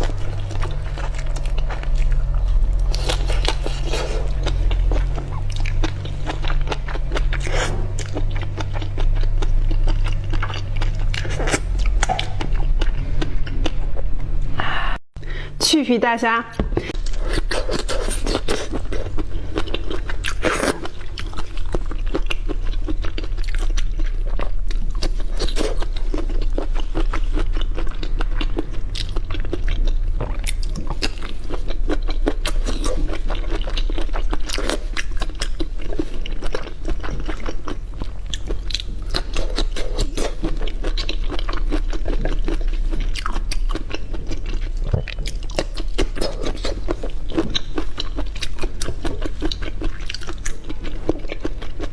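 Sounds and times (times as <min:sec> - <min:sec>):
wet chewing and crunching: 0:00.0 - 0:14.4, 0:16.9 - 0:51.9
steady low hum: 0:00.0 - 0:51.9.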